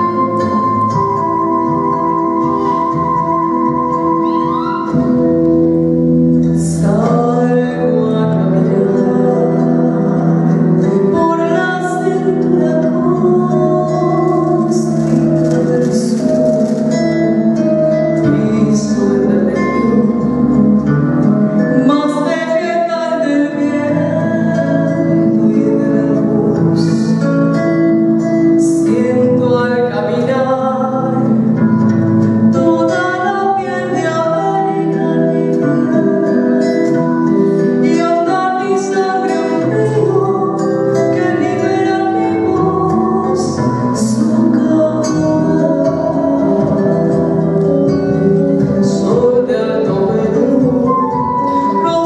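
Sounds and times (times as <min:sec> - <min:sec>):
instrumental accompaniment: 0:00.0 - 0:52.0
woman singing into microphone: 0:06.5 - 0:52.0.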